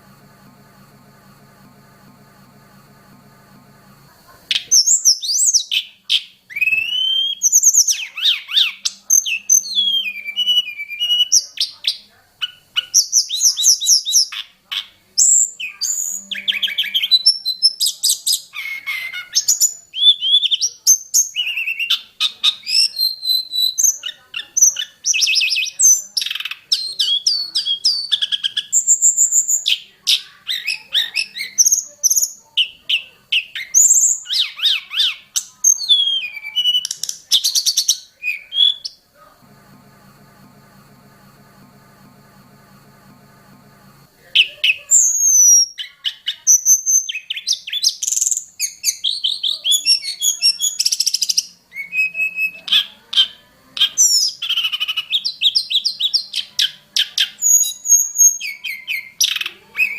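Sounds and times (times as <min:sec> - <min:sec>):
bird singing whistles and trills: 0:04.5 - 0:14.5, 0:15.2 - 0:39.0, 0:44.4 - 0:59.9.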